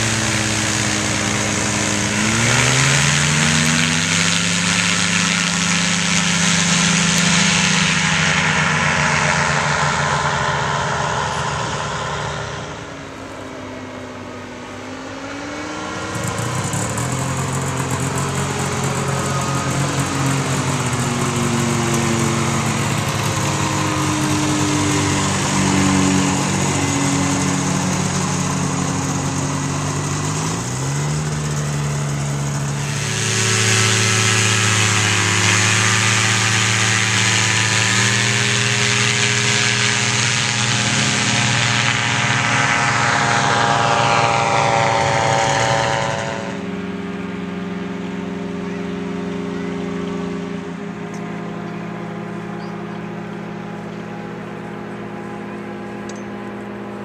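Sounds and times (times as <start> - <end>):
engine and propeller flying past: 0.0 - 57.0.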